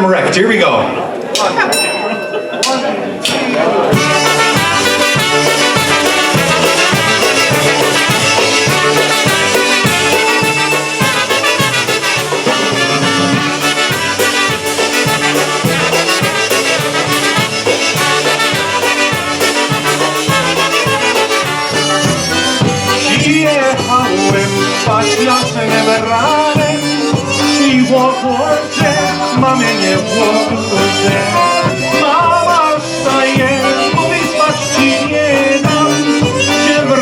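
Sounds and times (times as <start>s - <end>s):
polka band playing: 0.0s - 37.0s.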